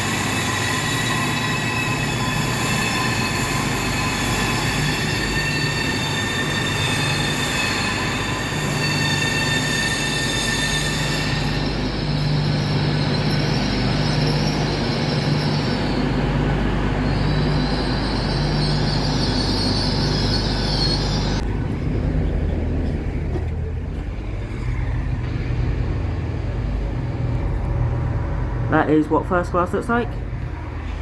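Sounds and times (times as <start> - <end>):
train wheel squeal: 0.0 - 27.5
train rumble: 0.0 - 31.0.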